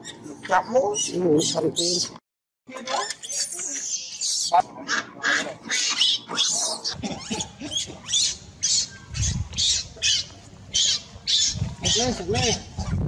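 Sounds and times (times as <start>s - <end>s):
baby monkey distress cries: 0.8s - 2.0s, 2.9s - 12.7s.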